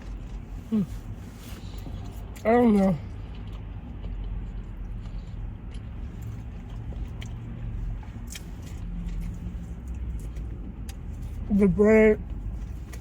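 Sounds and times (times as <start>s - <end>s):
chewing food: 0.0s - 11.5s, 12.2s - 13.0s
steady low rumble: 0.0s - 13.0s.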